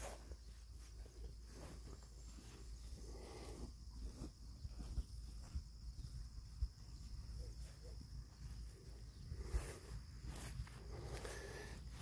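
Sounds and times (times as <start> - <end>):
high insect hum: 0.0 - 12.0.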